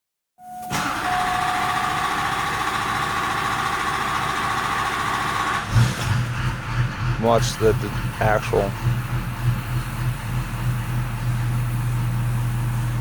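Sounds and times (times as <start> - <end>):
starter motor cranking diesel engine: 0.6 - 13.0.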